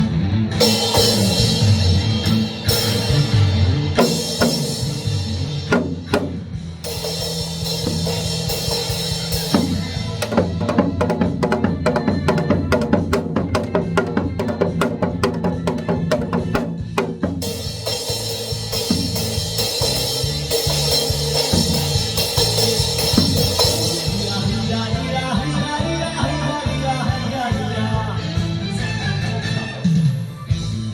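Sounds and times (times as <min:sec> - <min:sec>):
backing track music: 0:00.0 - 0:30.9.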